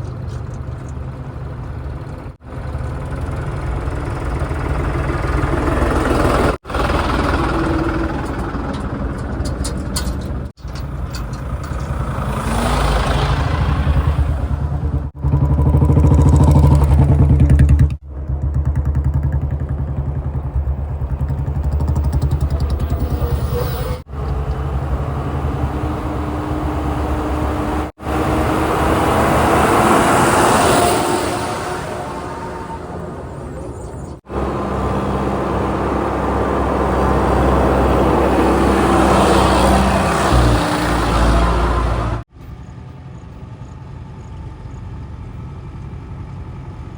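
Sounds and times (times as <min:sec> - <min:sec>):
heavy diesel engines under load: 0:00.0 - 0:46.9.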